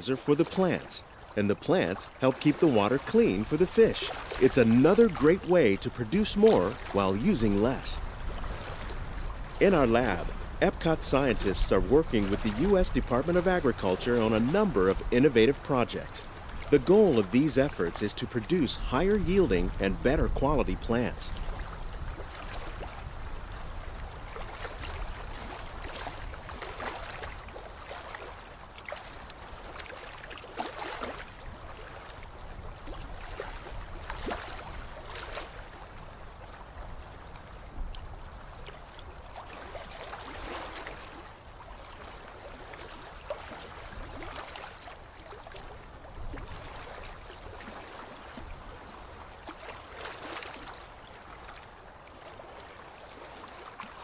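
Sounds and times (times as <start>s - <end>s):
water flowing and splashing: 0.0s - 54.0s.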